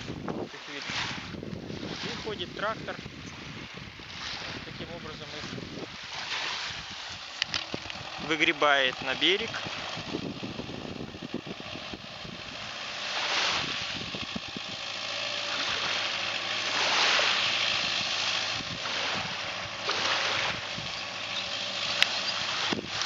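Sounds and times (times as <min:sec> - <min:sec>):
small waves washing onto shore: 0:00.0 - 0:23.0
tractor engine humming: 0:01.3 - 0:23.0.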